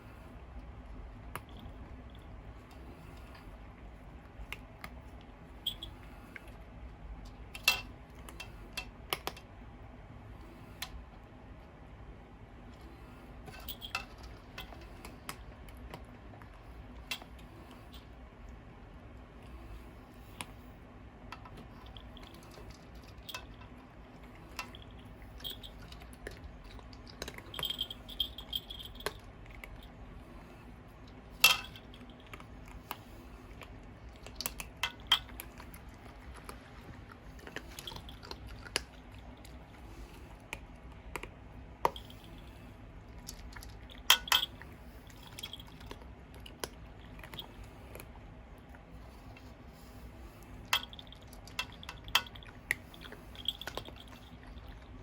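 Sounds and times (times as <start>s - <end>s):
ventilation fan hum: 0.0s - 55.0s
pet crunching dry kibble: 0.1s - 11.7s, 12.6s - 55.0s.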